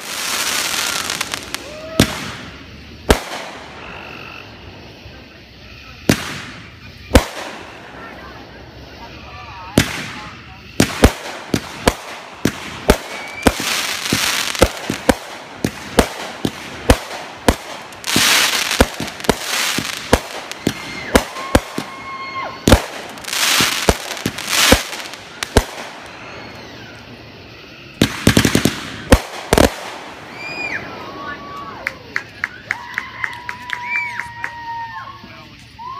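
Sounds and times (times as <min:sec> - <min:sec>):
firework bangs: 0:00.0 - 0:32.6
firecracker crackling: 0:00.0 - 0:35.9.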